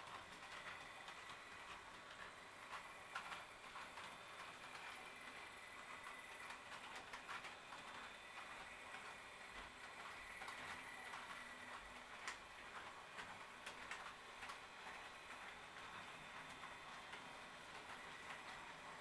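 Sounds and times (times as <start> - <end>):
model train clicking over rails: 0.0 - 19.0.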